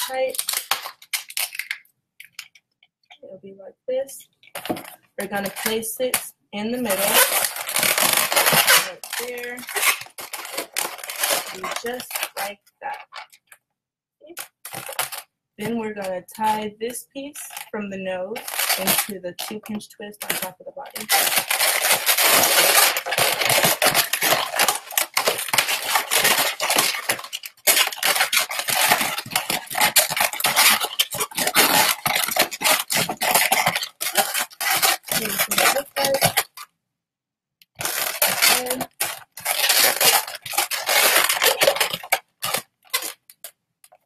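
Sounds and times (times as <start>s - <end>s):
balloons squeaking and rubbing: 0.0s - 2.6s, 4.3s - 13.6s, 14.2s - 16.6s, 17.3s - 36.7s, 37.7s - 43.5s.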